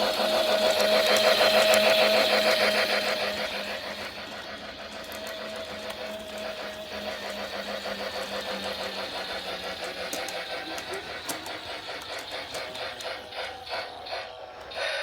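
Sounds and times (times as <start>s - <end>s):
fast clicking of wheels and gears: 0.0s - 14.8s
toy train motor running: 0.0s - 15.0s.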